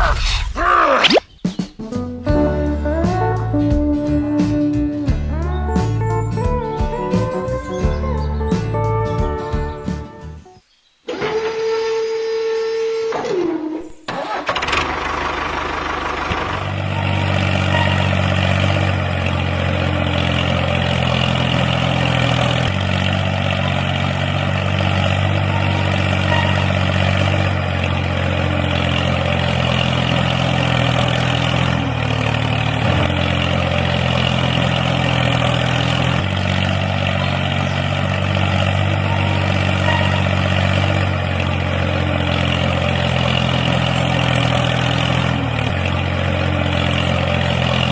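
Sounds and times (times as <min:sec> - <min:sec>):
engine running: 0:01.8 - 0:10.4, 0:11.1 - 0:47.9.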